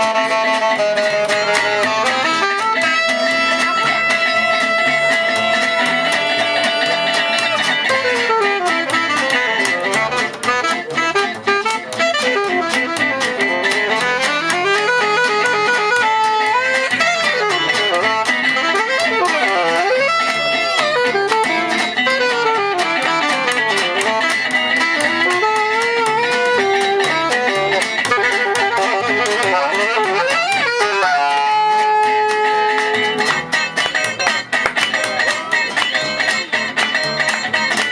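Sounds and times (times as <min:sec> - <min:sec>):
violin melody with slides: 0:00.0 - 0:37.8
rhythm guitar strumming: 0:00.0 - 0:37.9.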